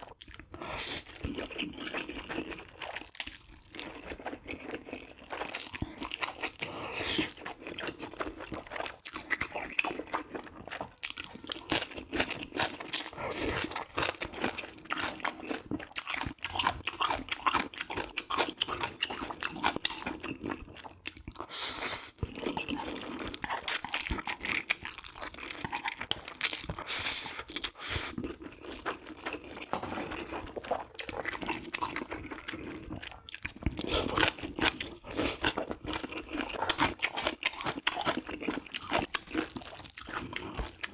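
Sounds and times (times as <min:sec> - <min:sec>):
person crunching and chewing food: 0:00.0 - 0:40.9.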